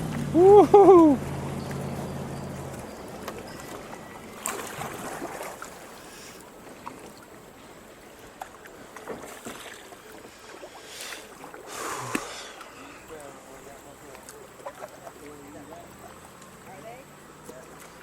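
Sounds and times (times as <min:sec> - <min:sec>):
paddle strokes swishing through water: 0:00.0 - 0:18.0.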